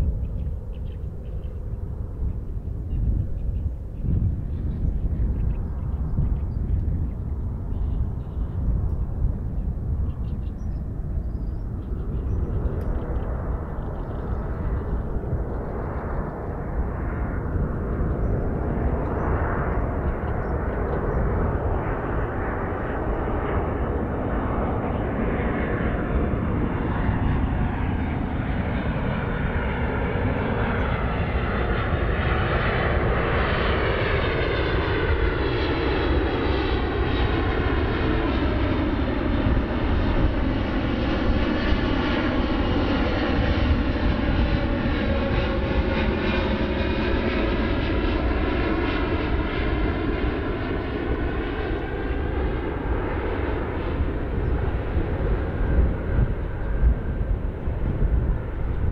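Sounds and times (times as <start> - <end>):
jet engines rumble and whine: 0.0 - 58.9.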